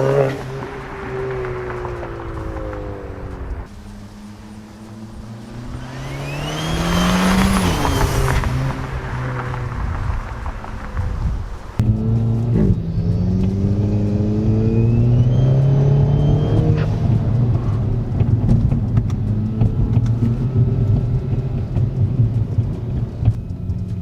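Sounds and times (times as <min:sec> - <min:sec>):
car exhaust accelerating: 0:00.0 - 0:24.0.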